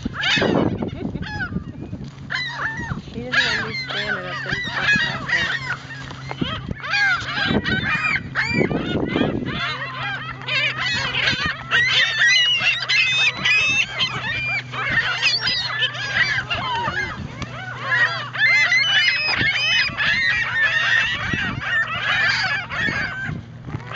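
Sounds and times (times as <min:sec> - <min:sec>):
gulls squawking: 0:00.0 - 0:23.9.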